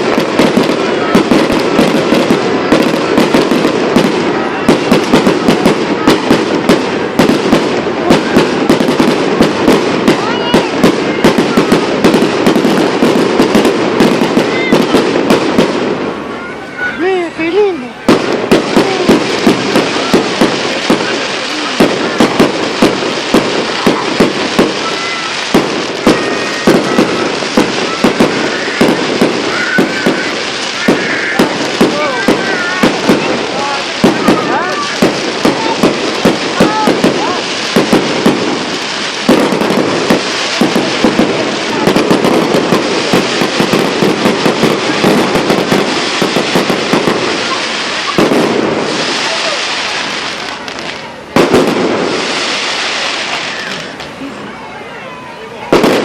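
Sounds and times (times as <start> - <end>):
fireworks banging: 0.0 - 56.0
fireworks crackling: 0.0 - 56.0.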